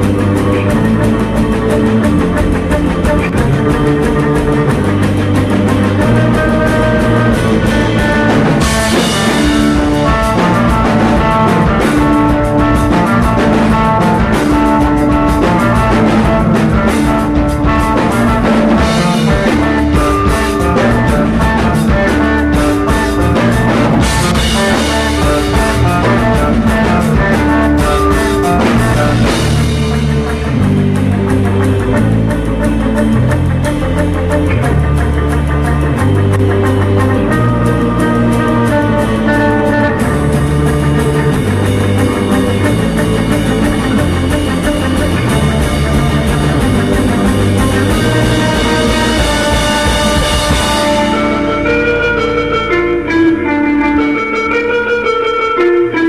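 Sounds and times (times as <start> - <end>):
drum kit with cymbals: 0.0 - 53.0
bass guitar: 0.0 - 56.0
electric guitars: 0.0 - 56.0.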